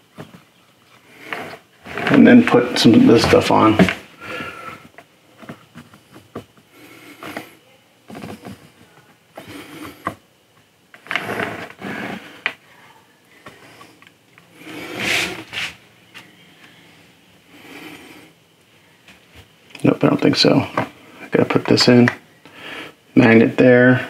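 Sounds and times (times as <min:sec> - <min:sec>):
rubbing and handling noise: 0:00.0 - 0:22.2.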